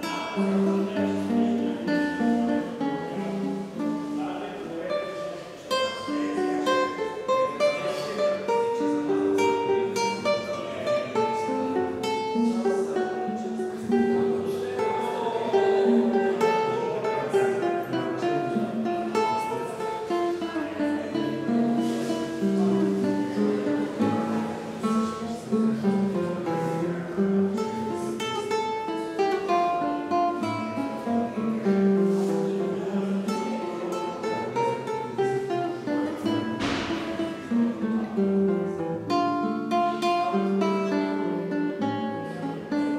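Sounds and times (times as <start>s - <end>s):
fingerpicked classical guitar: 0.0s - 42.9s.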